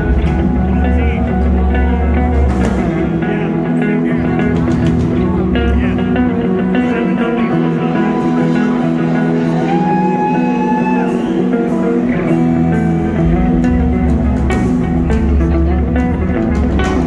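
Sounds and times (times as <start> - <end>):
electric guitar line: 0.0 - 17.0
rock band playing live: 0.0 - 17.0.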